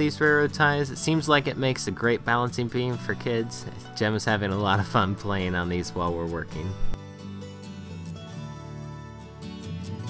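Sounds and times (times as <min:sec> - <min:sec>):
soft plucked guitar music: 0:00.0 - 0:10.0.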